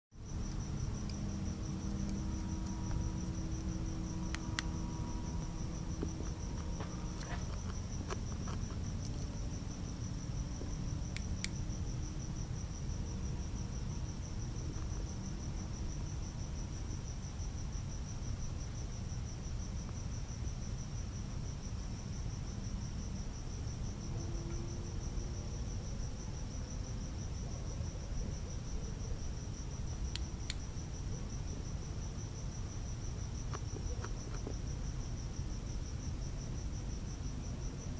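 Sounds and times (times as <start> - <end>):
crickets chirping: 0.1 - 37.9
low steady rumble: 0.2 - 37.9.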